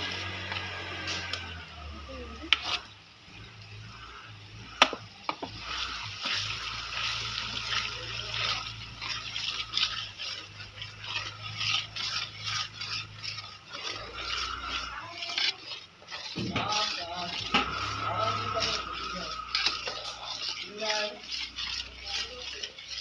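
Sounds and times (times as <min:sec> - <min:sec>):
metal ladle scraping pot: 0:00.0 - 0:23.0
paste sizzling in hot oil: 0:00.0 - 0:23.0.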